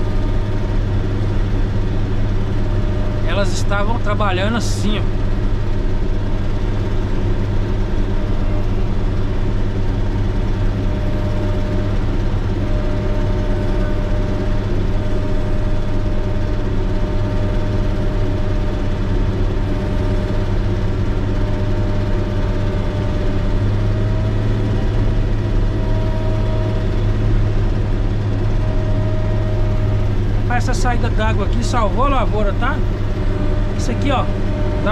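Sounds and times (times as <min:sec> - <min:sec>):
diesel engine running steadily: 0:00.0 - 0:34.9.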